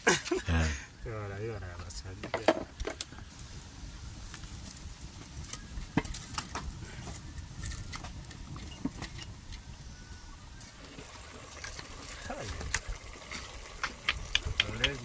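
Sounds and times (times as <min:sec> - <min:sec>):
wood fire crackling and popping: 0:01.5 - 0:15.0.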